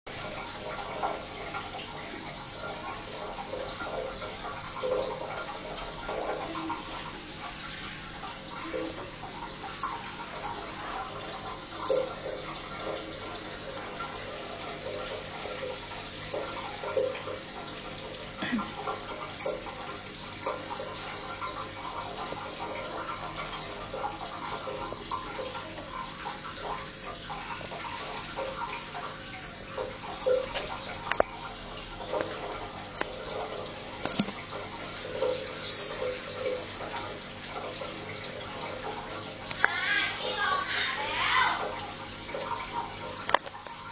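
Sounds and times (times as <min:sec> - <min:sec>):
water running: 0:00.1 - 0:43.9.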